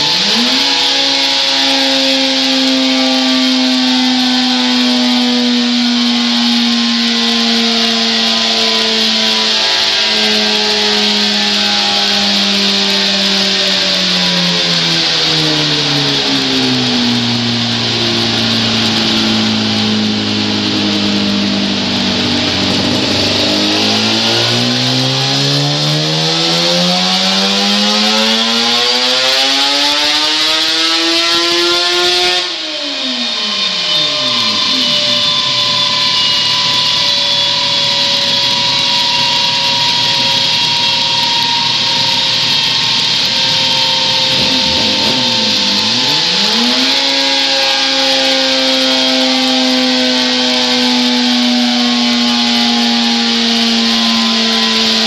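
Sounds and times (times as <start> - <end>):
two-stroke engine revving on a dyno: 0.0 - 55.0.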